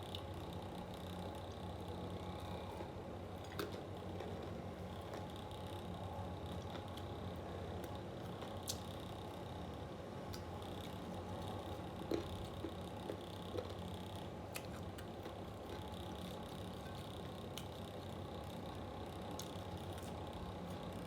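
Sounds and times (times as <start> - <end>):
electric fan humming: 0.0 - 21.0
soft chewing: 0.1 - 21.0.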